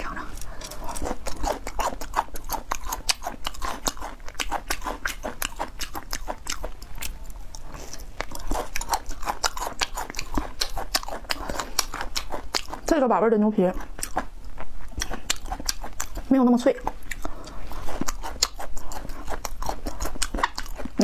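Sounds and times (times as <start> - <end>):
mouth chewing dried meat: 0.0 - 21.0.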